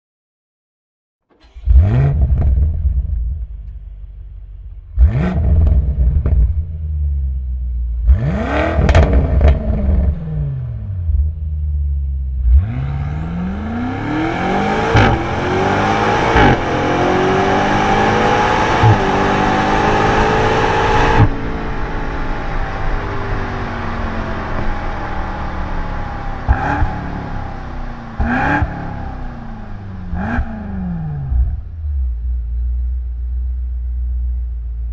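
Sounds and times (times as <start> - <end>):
car engine revving: 1.3 - 33.7.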